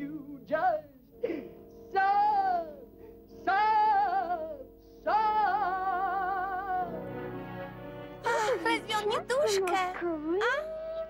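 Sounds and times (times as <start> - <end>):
held accompaniment chord: 0.0 - 11.0.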